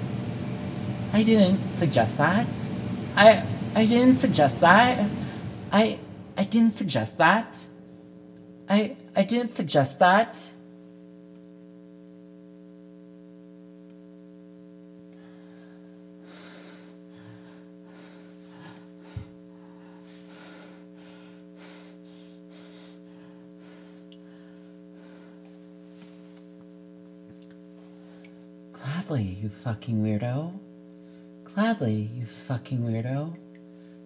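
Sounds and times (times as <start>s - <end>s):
air conditioner humming: 0.0s - 34.0s.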